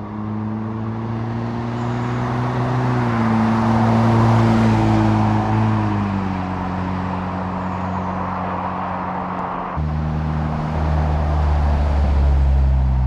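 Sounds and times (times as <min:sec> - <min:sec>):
car driving past: 0:00.0 - 0:13.0.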